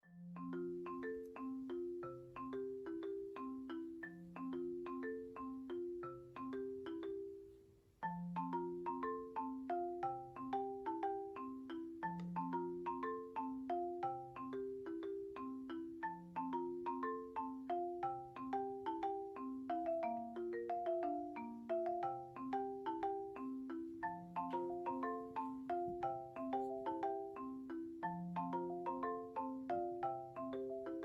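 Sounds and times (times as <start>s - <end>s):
light marimba tune: 0.0s - 31.0s.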